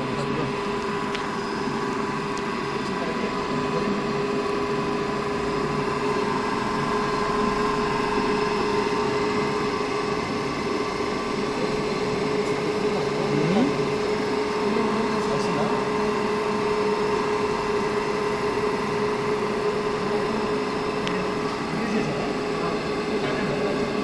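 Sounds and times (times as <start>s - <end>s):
electric motor humming and whining: 0.0s - 24.0s.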